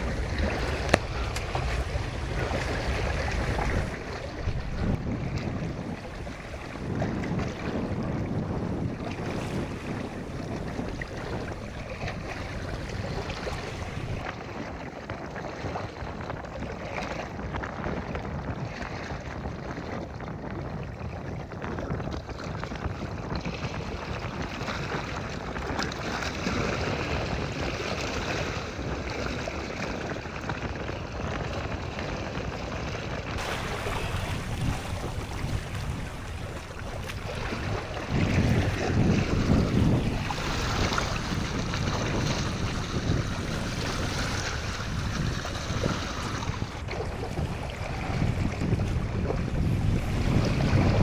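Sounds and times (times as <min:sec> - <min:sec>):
sea waves: 0:00.0 - 0:17.2, 0:22.7 - 0:51.0
wind buffeting microphone: 0:00.0 - 0:51.0.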